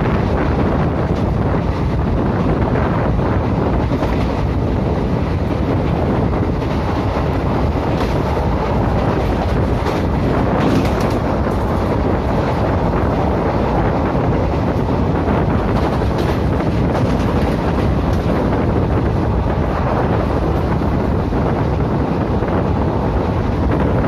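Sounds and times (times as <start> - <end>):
passenger train rumbling: 0.0 - 24.0
wind on microphone: 0.0 - 24.0.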